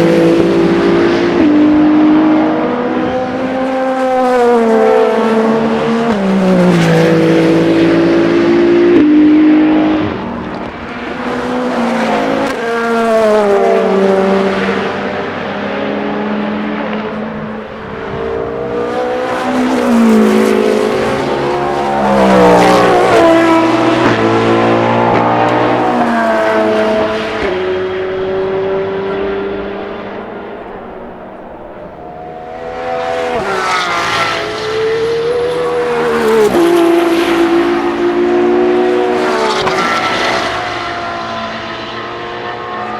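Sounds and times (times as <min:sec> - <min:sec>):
race cars passing at speed: 0:00.0 - 0:42.9.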